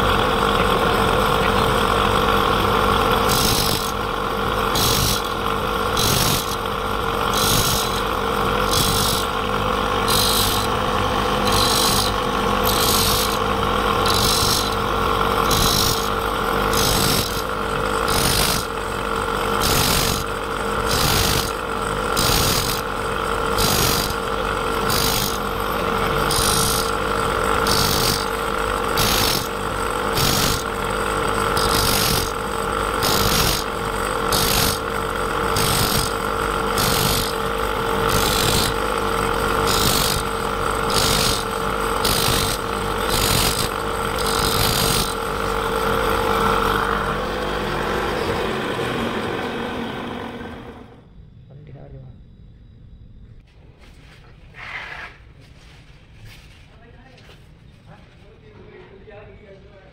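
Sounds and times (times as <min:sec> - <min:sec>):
grinding rasp on saw teeth: 0:00.0 - 0:49.2
grinding wheel humming: 0:00.0 - 0:51.3.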